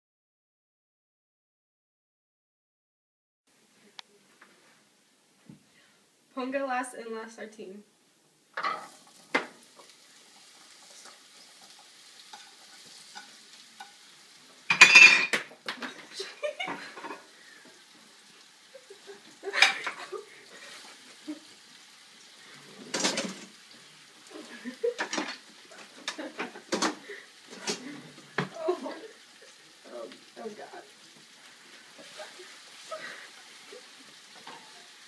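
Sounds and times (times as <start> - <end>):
potatoes sizzling in a pan: 5.6 - 35.0.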